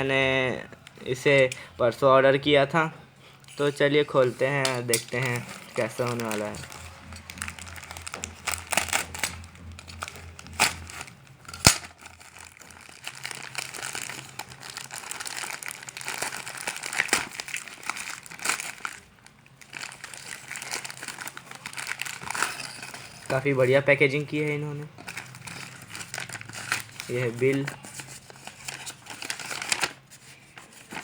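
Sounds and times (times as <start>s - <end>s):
packaging crinkling and rustling: 3.4s - 31.0s.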